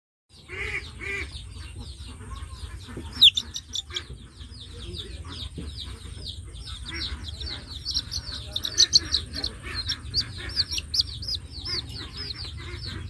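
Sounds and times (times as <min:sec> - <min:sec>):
chick peeping: 0:00.3 - 0:13.0
lower bird calls: 0:00.4 - 0:13.0.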